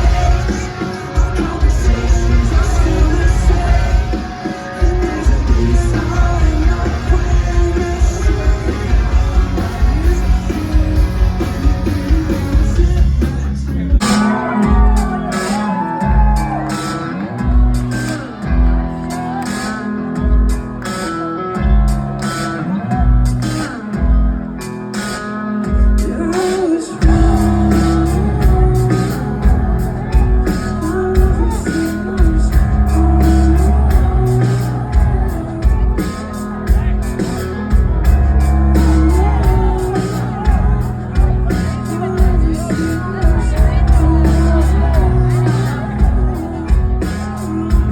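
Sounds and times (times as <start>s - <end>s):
live rock band with singer: 0.0s - 47.9s.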